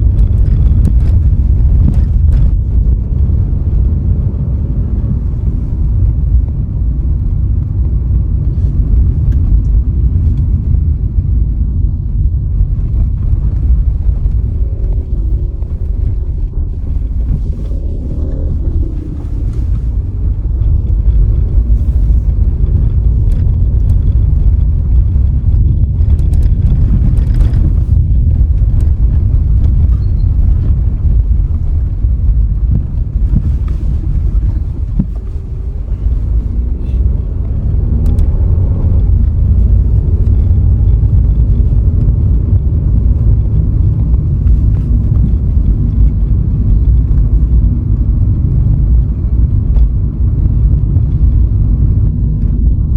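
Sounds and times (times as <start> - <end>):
faint engine tone: 0.0 - 45.9
car road and wind noise: 0.0 - 52.9.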